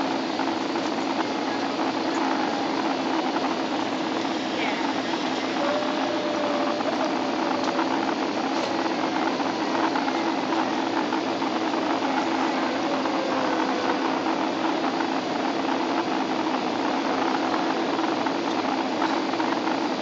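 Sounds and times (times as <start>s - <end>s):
airplane engine drone: 0.0s - 20.0s.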